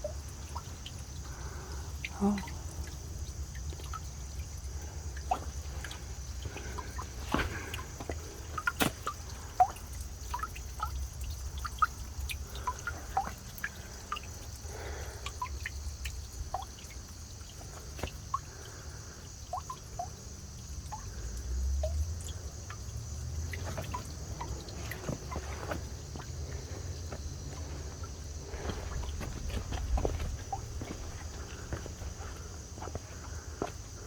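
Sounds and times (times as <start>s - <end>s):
water dripping into pool: 0.0s - 34.0s.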